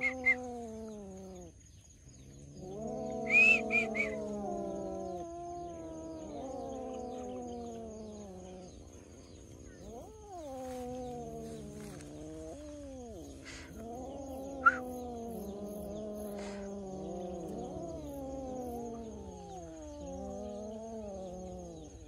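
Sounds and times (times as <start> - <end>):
cats yowling: 0.0 - 22.0.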